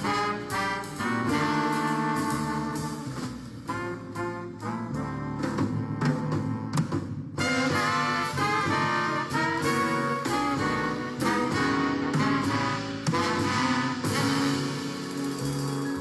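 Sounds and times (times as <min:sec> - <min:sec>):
jazz brass music: 0:00.0 - 0:16.0.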